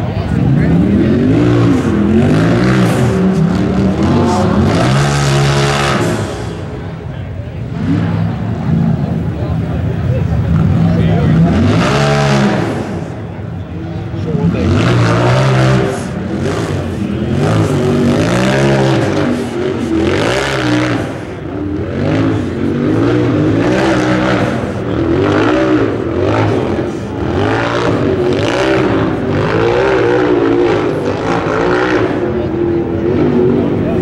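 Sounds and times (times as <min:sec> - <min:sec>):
buggy engine revving hard: 0:00.0 - 0:09.6, 0:10.4 - 0:34.0.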